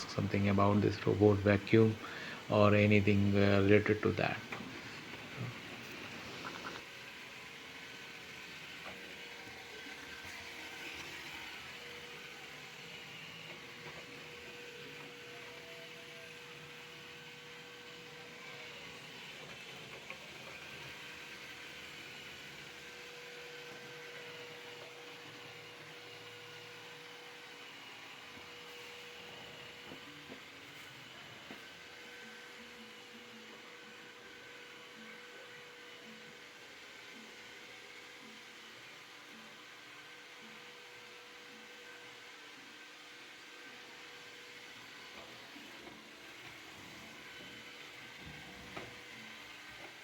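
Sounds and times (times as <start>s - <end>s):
robot vacuum whirring: 0.0s - 50.0s.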